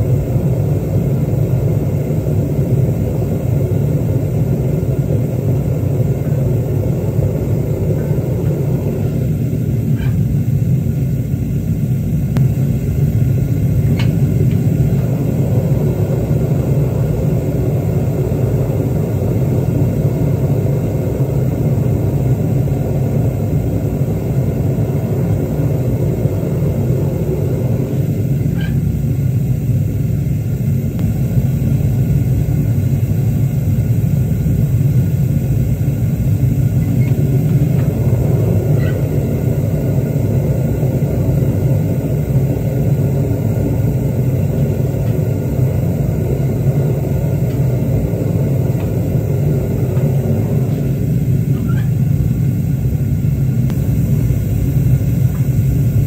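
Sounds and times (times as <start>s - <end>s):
gas burner roaring: 0.0s - 56.0s.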